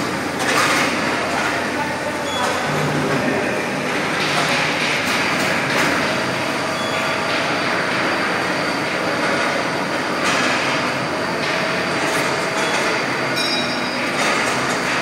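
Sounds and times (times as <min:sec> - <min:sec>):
roll-forming machine running: 0:00.0 - 0:15.0.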